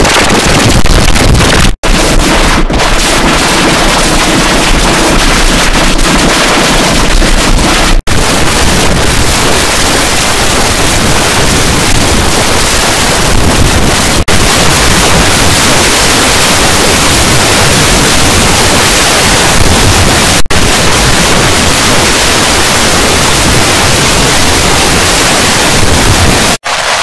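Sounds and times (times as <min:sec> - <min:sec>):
heavily distorted static noise: 0:00.0 - 0:27.0.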